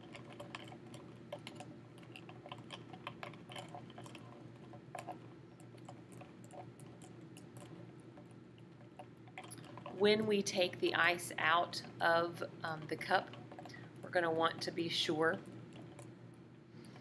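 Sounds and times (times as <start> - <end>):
ice clicking against probe and cup: 0.0 - 14.9.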